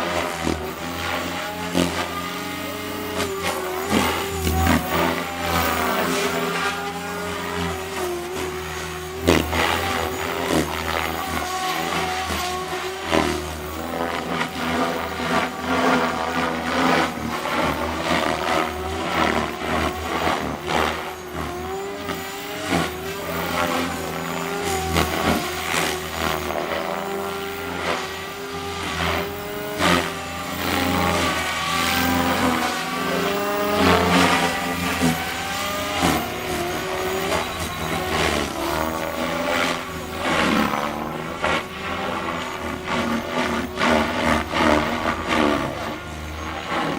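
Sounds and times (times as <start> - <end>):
low rotor drone: 0.0 - 46.9
rc helicopter motor whine: 0.0 - 46.9.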